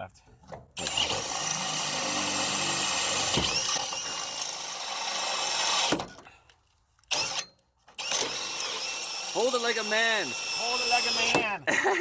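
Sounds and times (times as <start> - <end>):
power drill boring through wall: 0.8 - 6.2, 7.1 - 11.6.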